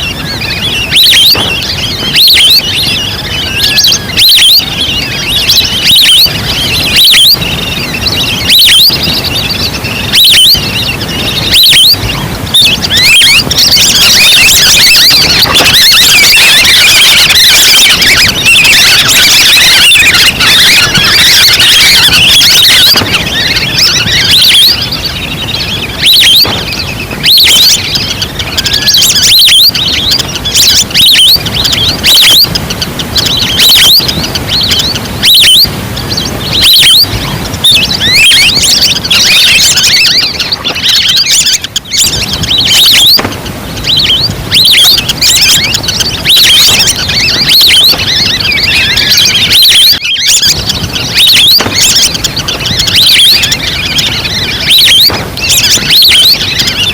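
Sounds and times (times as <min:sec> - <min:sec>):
ducks calling: 0:00.0 - 0:56.9.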